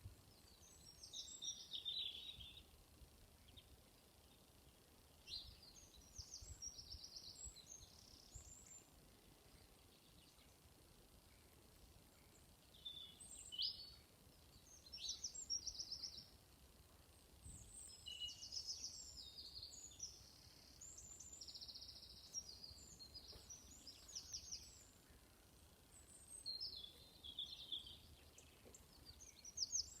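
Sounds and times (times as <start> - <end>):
faint low hum: 0.0 - 30.0
small songbirds singing: 0.0 - 30.0.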